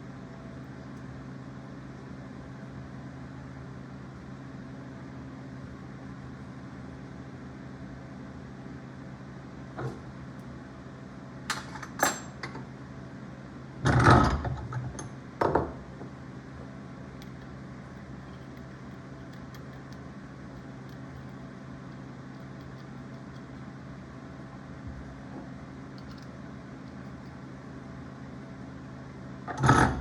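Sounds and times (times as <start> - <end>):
steady low hum: 0.0 - 12.0, 14.8 - 30.0.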